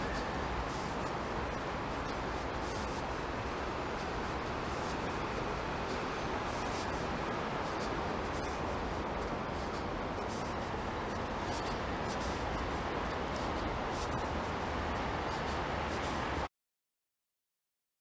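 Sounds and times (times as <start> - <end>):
outdoor background hiss: 0.0 - 16.5.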